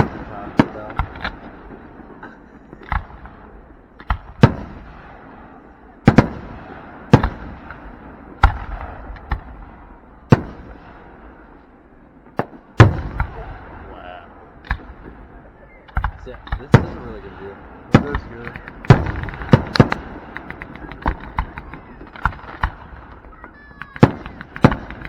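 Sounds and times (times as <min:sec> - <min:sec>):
fireworks booming: 0:00.0 - 0:25.0.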